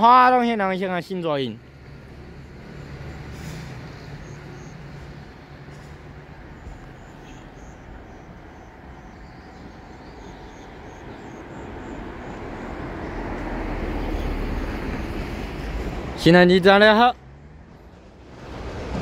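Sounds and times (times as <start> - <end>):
electric train rumble approaching: 1.6 - 19.0.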